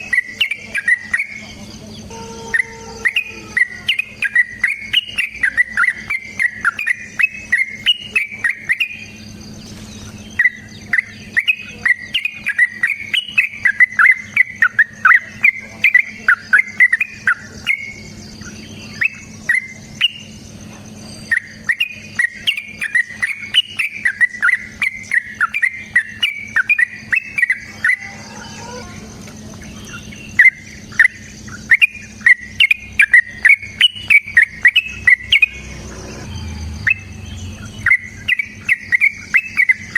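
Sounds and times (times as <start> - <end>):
bird singing chattering notes: 0.0 - 39.9
faint high insect trill: 0.0 - 39.9.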